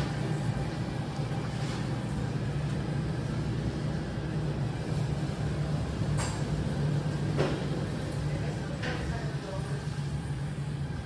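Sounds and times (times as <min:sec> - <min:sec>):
refrigerated cases humming: 0:00.0 - 0:11.0.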